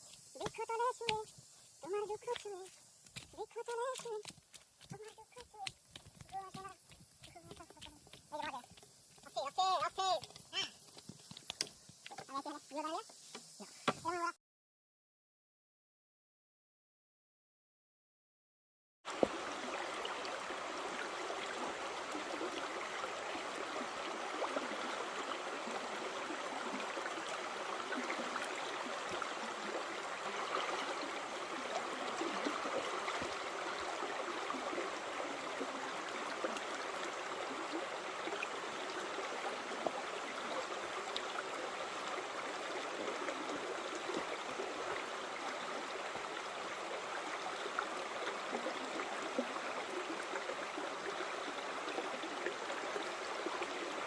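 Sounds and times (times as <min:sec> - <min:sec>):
flowing stream water: 0:00.0 - 0:14.3, 0:19.1 - 0:54.0.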